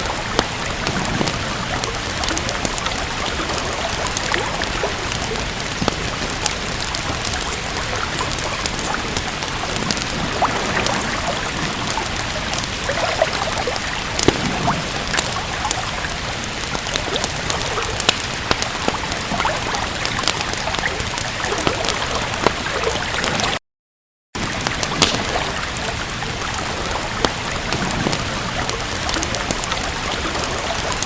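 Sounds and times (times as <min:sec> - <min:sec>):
steady rain: 0:00.0 - 0:23.6, 0:24.4 - 0:31.0
wood fire crackling: 0:00.0 - 0:23.6, 0:24.4 - 0:31.0.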